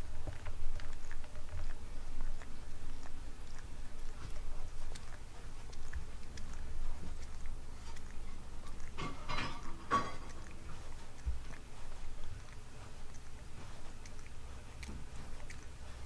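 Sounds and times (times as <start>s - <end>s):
cat licking: 0.0s - 16.0s.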